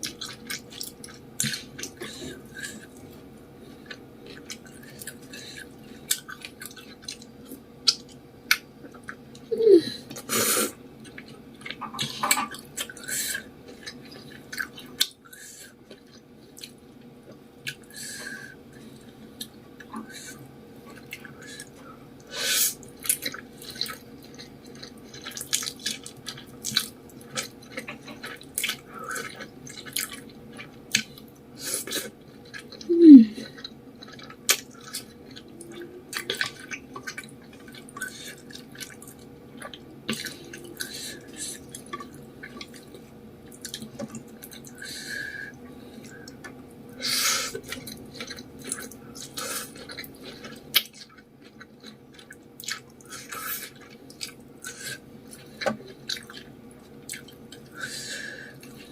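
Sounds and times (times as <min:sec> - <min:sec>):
wet chewing and slurping noodles: 0:00.0 - 0:58.9.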